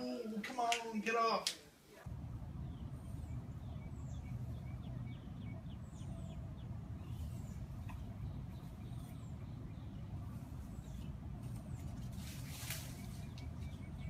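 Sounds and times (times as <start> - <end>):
steady low rumble: 2.0 - 14.0
small birds chirping: 2.1 - 14.0.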